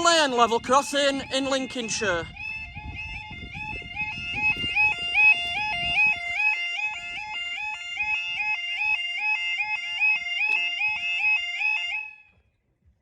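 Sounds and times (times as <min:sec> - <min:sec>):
level crossing alarm two-tone yodel: 0:00.0 - 0:12.4.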